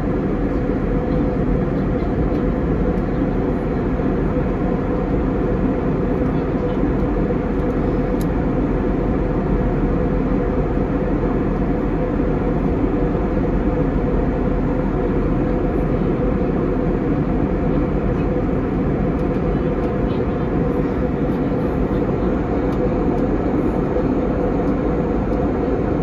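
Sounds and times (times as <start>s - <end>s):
airplane cabin airflow and engines: 0.0s - 26.0s
constant low hum: 0.0s - 26.0s.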